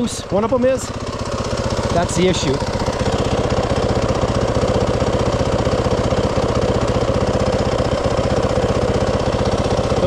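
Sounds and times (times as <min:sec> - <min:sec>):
utility vehicle engine idling: 0:00.0 - 0:10.0.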